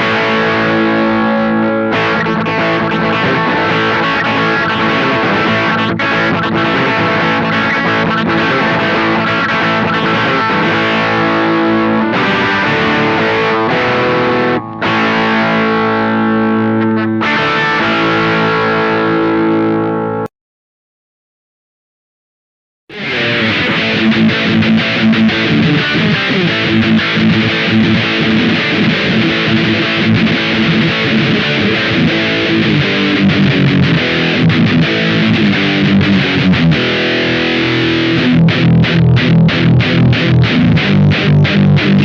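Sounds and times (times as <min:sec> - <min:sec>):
distorted electric guitar chords: 0:00.0 - 0:20.3, 0:22.9 - 0:42.0.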